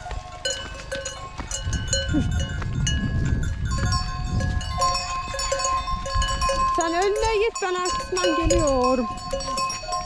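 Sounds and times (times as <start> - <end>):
sheep bells clanking: 0.0 - 10.0.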